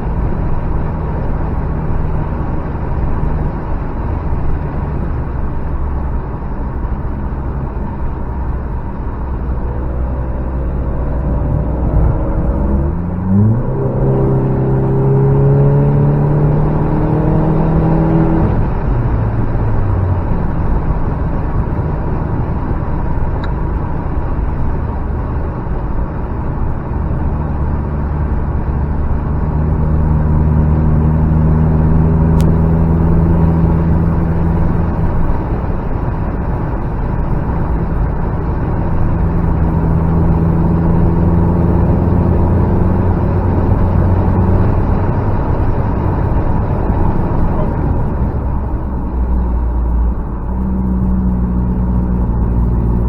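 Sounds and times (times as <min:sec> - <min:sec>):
car engine driving: 0:00.0 - 0:53.0
tyre road noise: 0:00.0 - 0:53.0.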